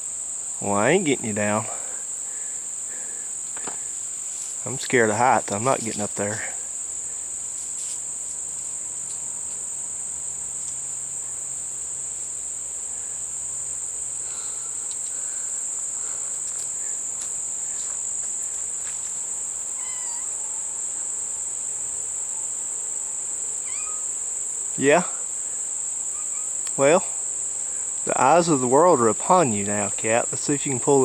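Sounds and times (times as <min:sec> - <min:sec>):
crickets trilling: 0:00.0 - 0:31.0
short insect chirps: 0:00.0 - 0:31.0.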